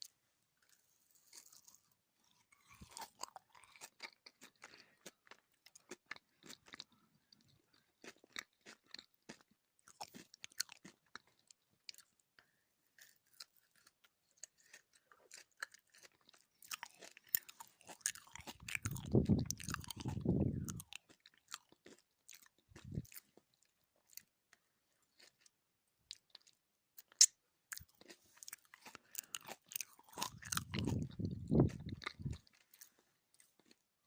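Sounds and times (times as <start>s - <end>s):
chewing jelly candy: 0.0s - 34.0s.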